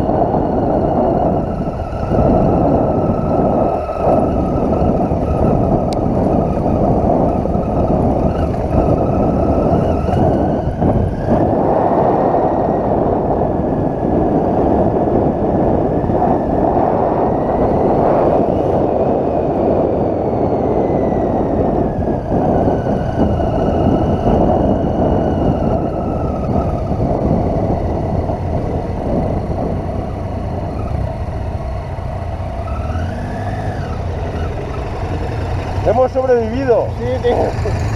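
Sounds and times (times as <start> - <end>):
motorcycle engine running: 0.0 - 37.9
wind rush: 0.0 - 37.9.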